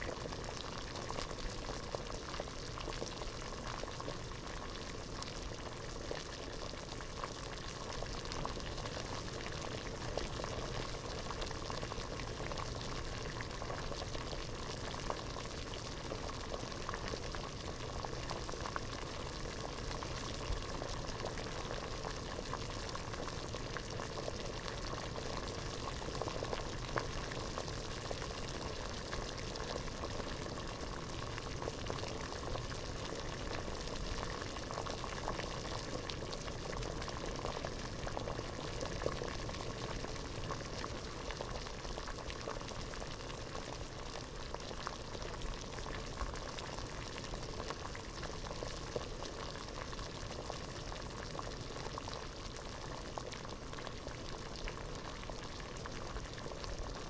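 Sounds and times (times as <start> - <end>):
water boiling in a pot: 0.0 - 57.0.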